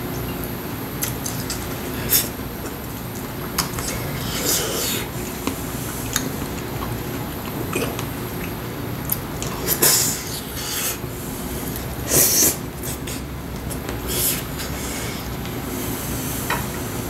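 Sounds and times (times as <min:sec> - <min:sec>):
man chewing: 0:01.0 - 0:16.3.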